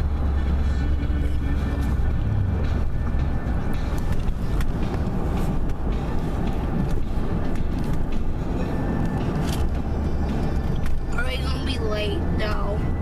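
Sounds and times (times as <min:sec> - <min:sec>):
truck road and engine rumble: 0:00.0 - 0:13.0.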